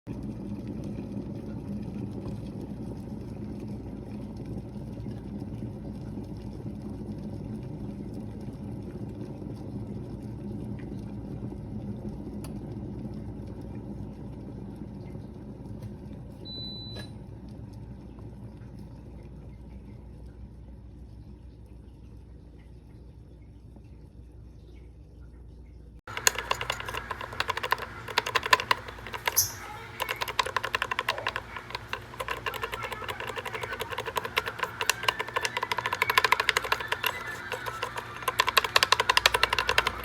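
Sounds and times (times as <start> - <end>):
electric kettle heating water: 0.1 - 24.4, 26.1 - 40.0.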